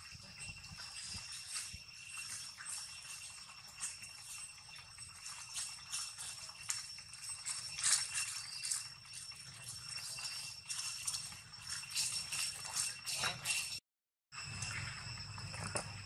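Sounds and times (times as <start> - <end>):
high insect drone: 0.0 - 13.8, 14.4 - 16.0
footsteps on dry leaves: 0.6 - 13.8.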